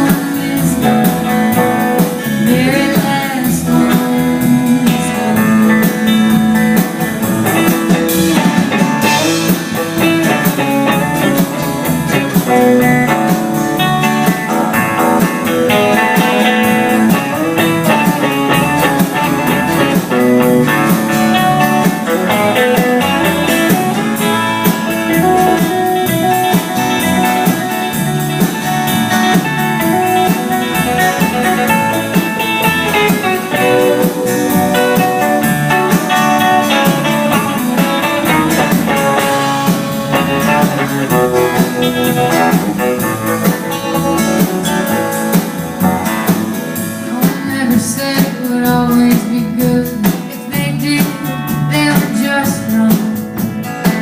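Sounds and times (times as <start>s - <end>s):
guitar melody: 0.0s - 54.0s
live band playing blues: 0.0s - 54.0s.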